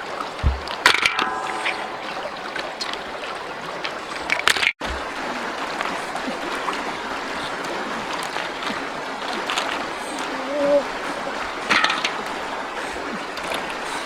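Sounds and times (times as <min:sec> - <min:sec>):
light knocks and splashes: 0:00.0 - 0:14.0
stream water running: 0:00.0 - 0:14.0.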